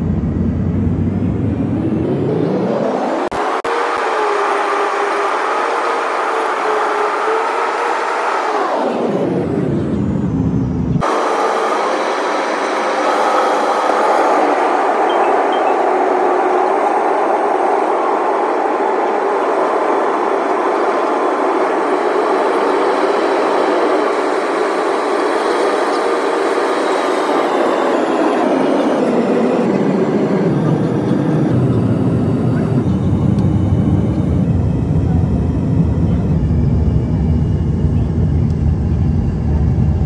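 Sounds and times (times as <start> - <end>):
airliner cabin hum: 0.0 - 2.5, 9.6 - 40.0.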